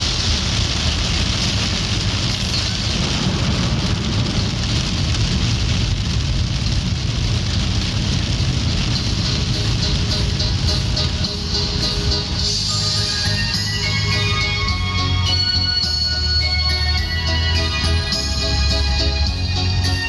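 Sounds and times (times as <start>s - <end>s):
loud rain: 0.0s - 20.0s.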